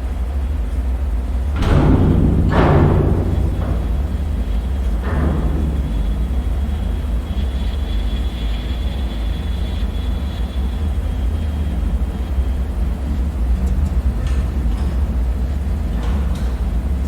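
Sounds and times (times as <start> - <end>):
low rumbling drone: 1.5 - 16.1.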